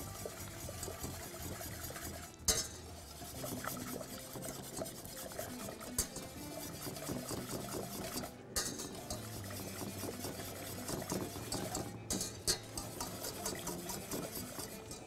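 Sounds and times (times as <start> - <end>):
whisk scraping saucepan: 0.0 - 15.0.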